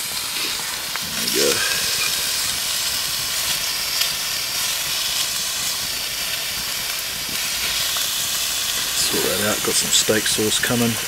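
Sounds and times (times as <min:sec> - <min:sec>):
campfire crackles: 0:00.0 - 0:11.0
steak sizzling in a pan: 0:00.0 - 0:11.0.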